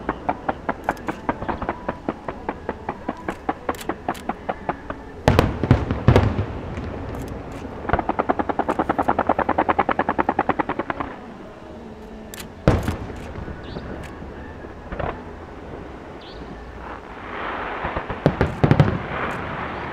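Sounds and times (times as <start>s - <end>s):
fireworks bursting: 0.0s - 19.9s.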